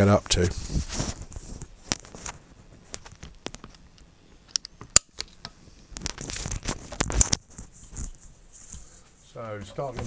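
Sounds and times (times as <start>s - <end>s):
rustling: 0.0s - 3.8s, 5.2s - 10.0s.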